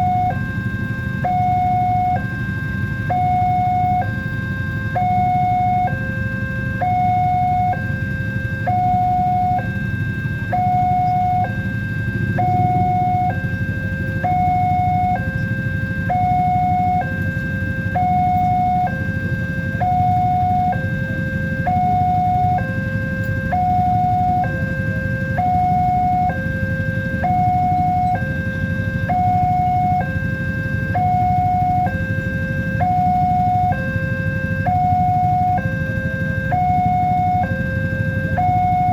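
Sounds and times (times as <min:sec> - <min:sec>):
two-tone crossing alarm: 0:00.0 - 0:38.9.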